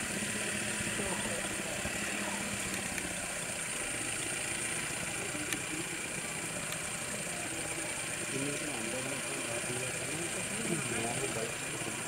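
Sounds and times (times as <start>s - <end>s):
jeep engine idling: 0.0s - 12.0s.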